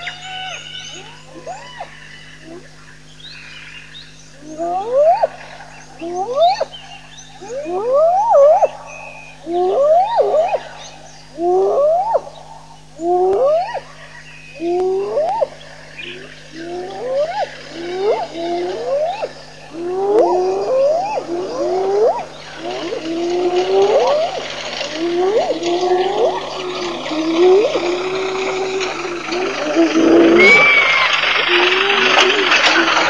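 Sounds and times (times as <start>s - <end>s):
hyena whooping calls: 0.0s - 33.0s.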